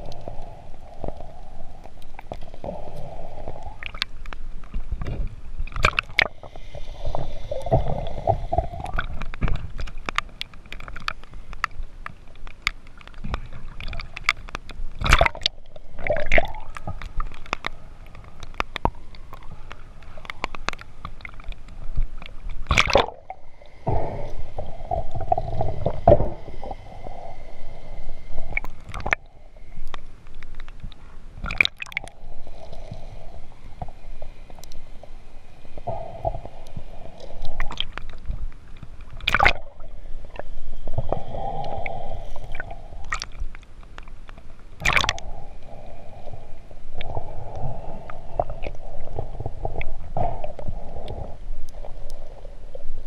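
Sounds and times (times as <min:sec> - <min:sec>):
underwater water sloshing: 0:00.0 - 0:53.0.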